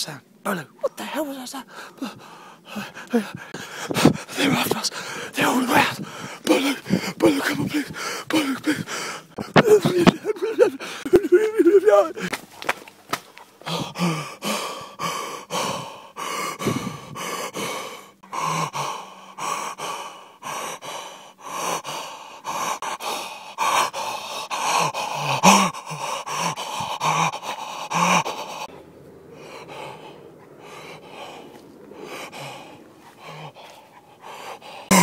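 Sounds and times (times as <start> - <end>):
soft breathing: 0.8 - 11.1, 13.2 - 35.0
man gasping: 0.8 - 12.4, 13.6 - 35.0.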